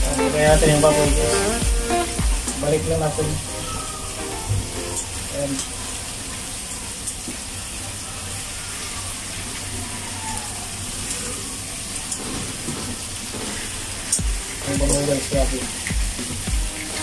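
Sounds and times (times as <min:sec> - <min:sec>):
meat and onions sizzling in a pan: 0:00.0 - 0:17.0.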